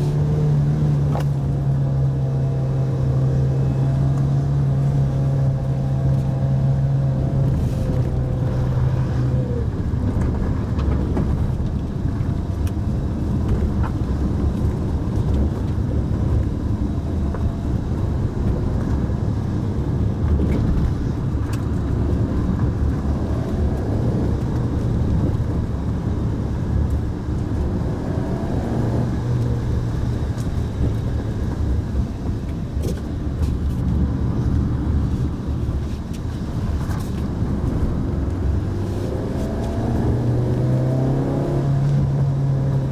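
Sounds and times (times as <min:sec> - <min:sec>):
tyre and road noise: 0:00.0 - 0:42.9.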